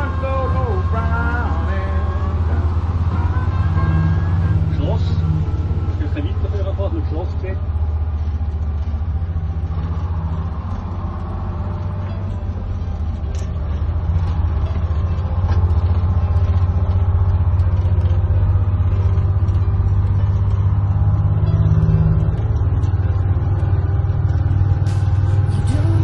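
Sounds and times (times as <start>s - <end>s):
bus diesel engine drone: 0.0s - 26.0s.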